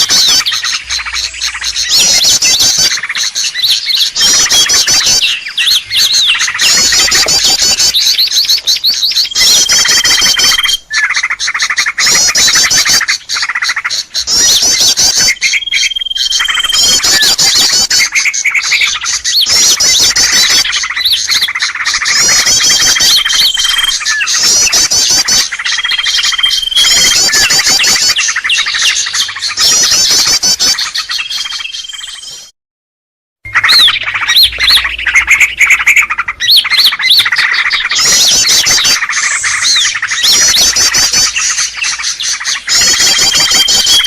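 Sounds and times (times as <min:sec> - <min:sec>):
small birds chirping and trilling: 0:00.0 - 0:32.5, 0:33.5 - 0:44.0.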